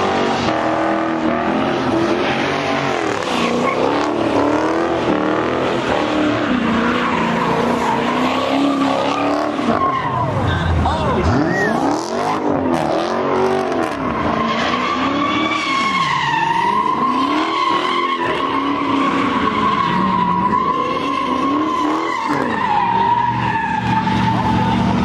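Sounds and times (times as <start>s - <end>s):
car engine revving: 0.0s - 25.0s
car tires screeching: 0.0s - 25.0s.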